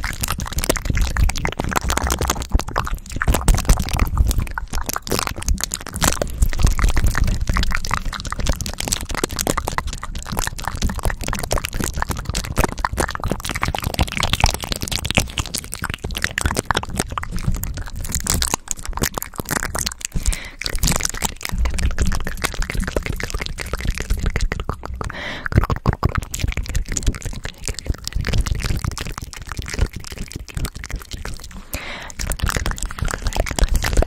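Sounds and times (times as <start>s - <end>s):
wet mouth clicks: 0.0s - 34.0s.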